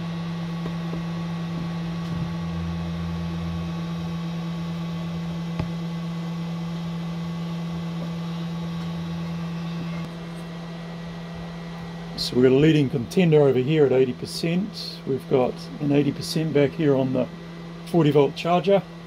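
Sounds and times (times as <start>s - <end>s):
battery charger cooling fans humming: 0.0s - 19.0s.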